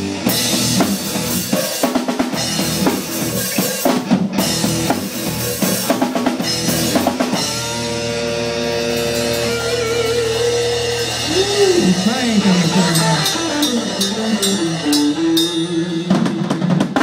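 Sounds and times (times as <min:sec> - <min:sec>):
drum kit hits: 0:00.0 - 0:17.0
electric guitar: 0:00.0 - 0:17.0.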